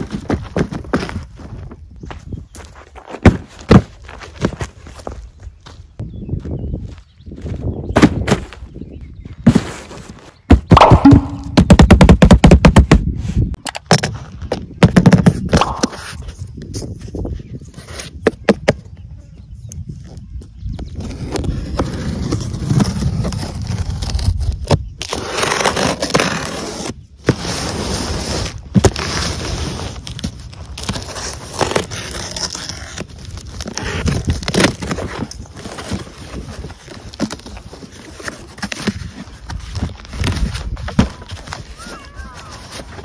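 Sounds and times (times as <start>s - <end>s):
cardboard crackling and scraping: 0.0s - 5.6s, 7.9s - 10.8s, 11.5s - 18.6s, 20.8s - 43.0s.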